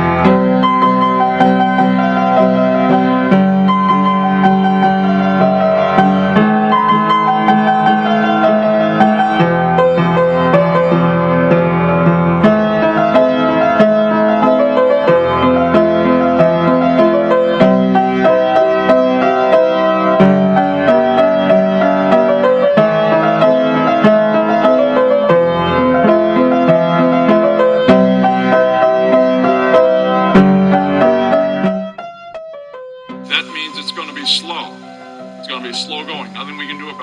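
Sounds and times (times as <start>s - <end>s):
piano background music: 0.0s - 37.0s.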